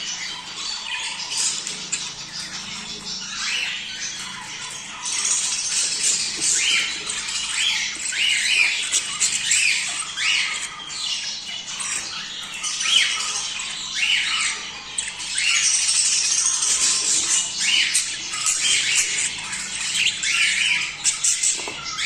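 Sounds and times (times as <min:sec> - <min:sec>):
parrots chattering and squawking: 0:00.0 - 0:22.0.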